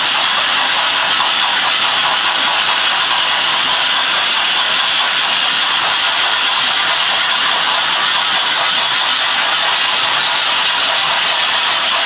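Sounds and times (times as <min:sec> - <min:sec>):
model trains whirring on metal track: 0:00.0 - 0:12.0.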